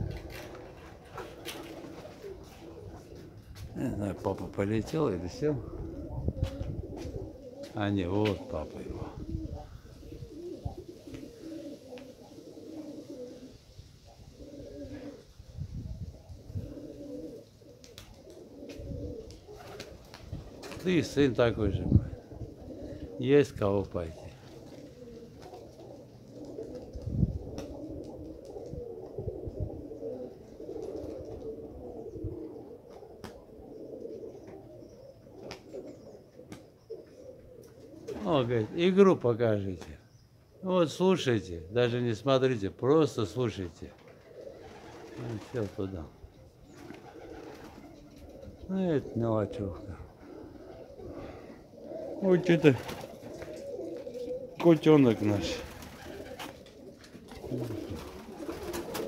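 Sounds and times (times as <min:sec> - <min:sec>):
pigeons cooing: 0:00.0 - 0:42.2, 0:43.0 - 0:59.0.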